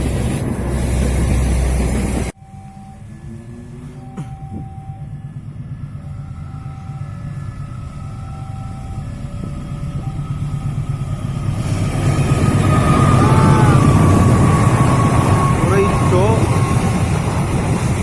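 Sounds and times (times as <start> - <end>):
diesel locomotive engine rumbling: 0.0 - 18.0
wheel and rail noise: 0.0 - 18.0.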